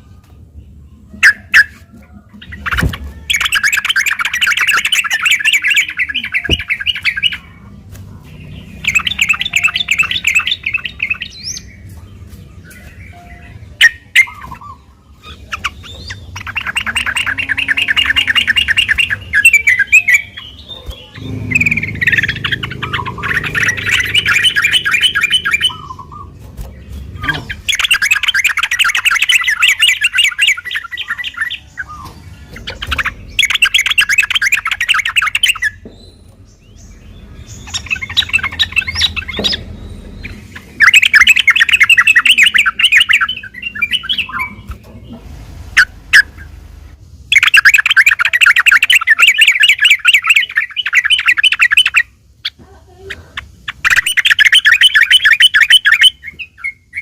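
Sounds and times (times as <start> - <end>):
bird chattering song: 0.0 - 45.2, 47.3 - 57.0.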